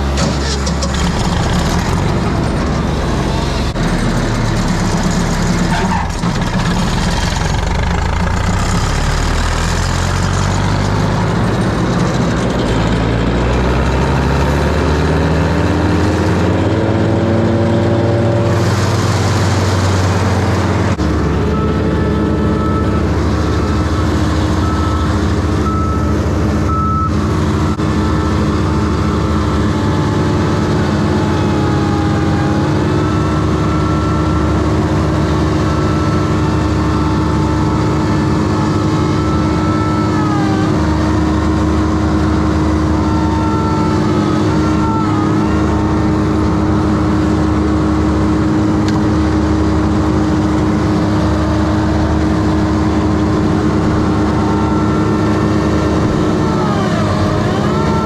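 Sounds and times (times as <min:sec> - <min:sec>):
heavy engine running: 0:00.0 - 0:58.0.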